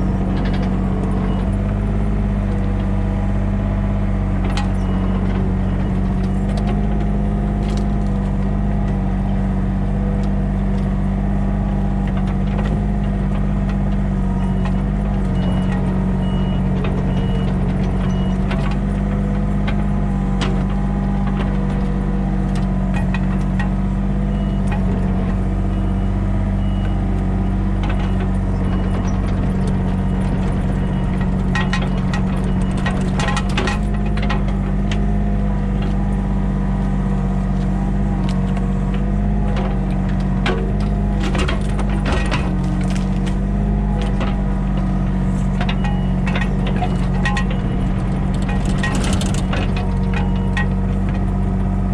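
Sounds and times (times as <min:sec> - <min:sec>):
motor engine running: 0:00.0 - 0:51.9.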